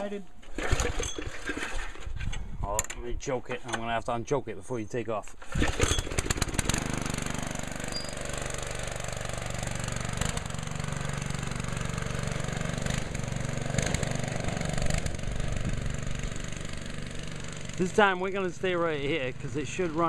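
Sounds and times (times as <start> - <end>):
go-kart engine running: 0.5 - 2.1, 5.4 - 20.0.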